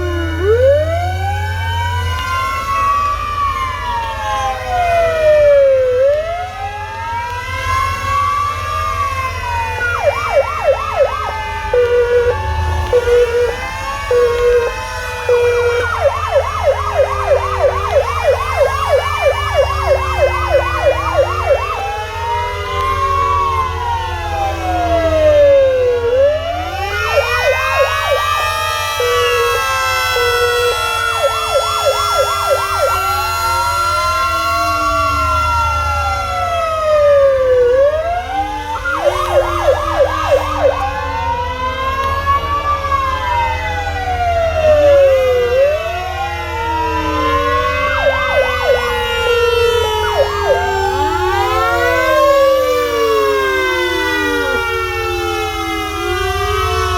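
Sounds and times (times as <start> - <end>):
emergency vehicle sirens: 0.0 - 56.9
low rumble of traffic: 0.0 - 56.9.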